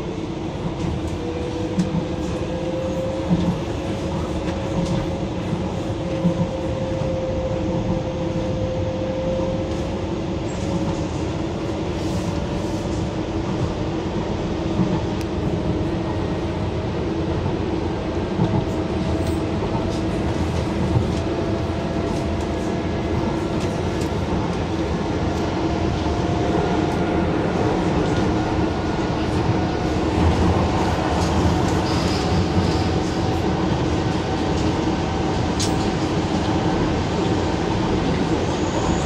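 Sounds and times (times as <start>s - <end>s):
train wheels rumbling on track: 0.0s - 39.0s.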